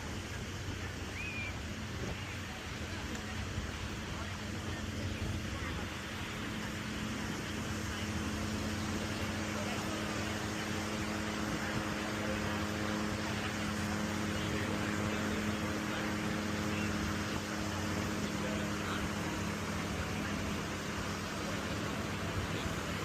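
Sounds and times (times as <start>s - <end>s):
constant rushing noise: 0.0s - 23.0s
low machine hum: 0.0s - 23.0s.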